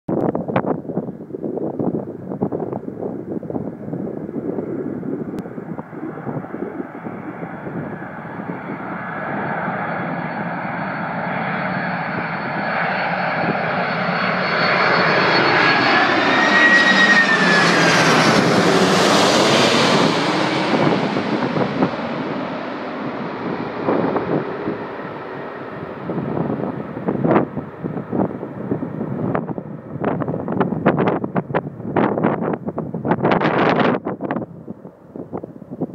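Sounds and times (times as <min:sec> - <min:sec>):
wind buffeting microphone: 0:00.1 - 0:35.9
jet airliner passing overhead: 0:00.2 - 0:35.9.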